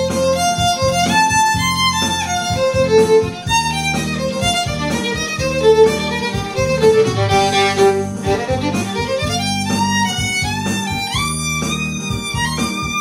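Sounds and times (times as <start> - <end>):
backing track with beat: 0.0 - 13.0
solo violin melody: 0.0 - 13.0.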